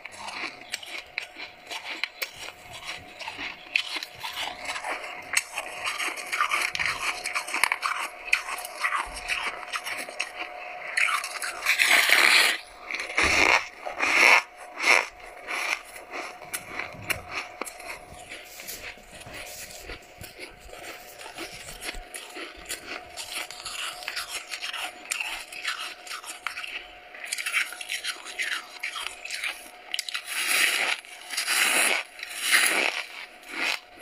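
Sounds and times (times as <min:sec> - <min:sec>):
frost crunching and scraping: 0:00.0 - 0:34.0.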